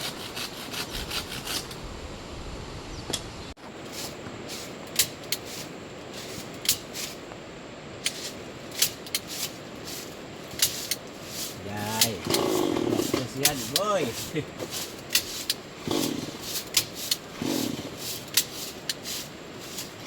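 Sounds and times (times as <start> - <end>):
rain hissing: 1.6 - 20.0.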